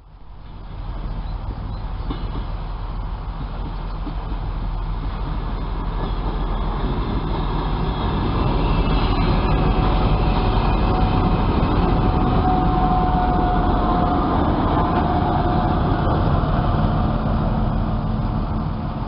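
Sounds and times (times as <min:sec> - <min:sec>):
diesel engine rumble: 0:00.0 - 0:19.0
train wheels rolling on rails: 0:00.3 - 0:19.0.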